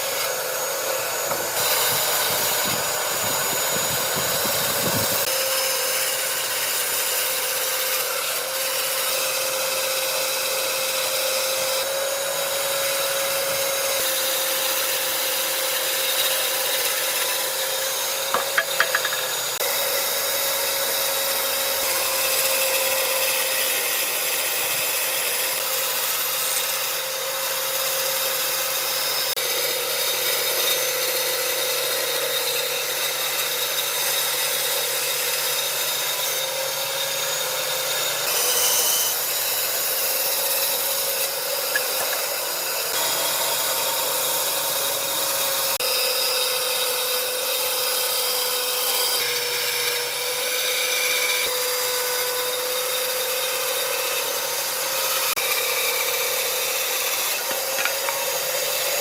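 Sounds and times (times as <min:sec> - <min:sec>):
power tool running on wood: 0:00.0 - 0:59.0.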